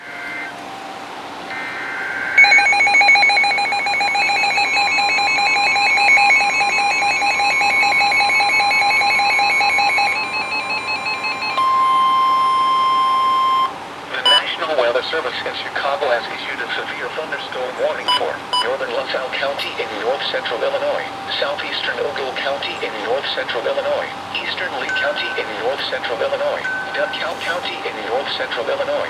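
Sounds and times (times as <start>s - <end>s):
steady warning alarm tone: 0.0s - 29.0s
shrill two-tone electronic beeping: 1.5s - 14.6s, 18.0s - 29.0s.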